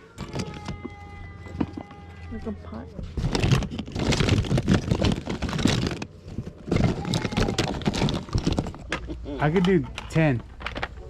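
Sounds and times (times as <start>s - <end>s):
hard objects clattering and knocking: 0.1s - 2.1s, 3.0s - 11.0s.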